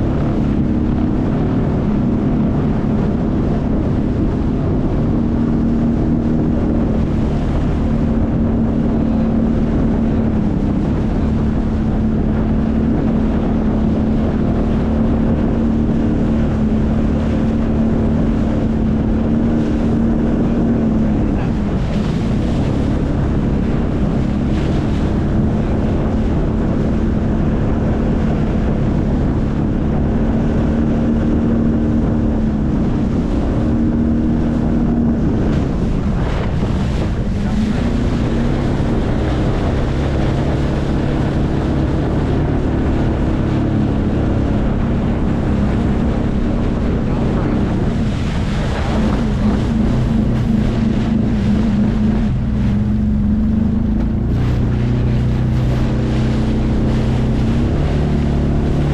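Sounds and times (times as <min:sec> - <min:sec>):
personal watercraft engine running: 0:00.0 - 0:58.9
water rushing: 0:00.0 - 0:58.9
wind buffeting the microphone: 0:00.0 - 0:58.9.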